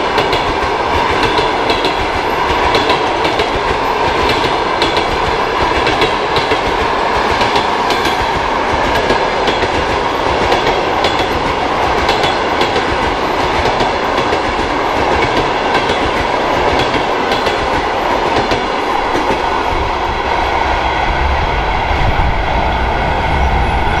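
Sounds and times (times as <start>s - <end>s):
train rolling rumble: 0.0s - 24.0s
wheels clicking over rail joints: 0.1s - 19.4s.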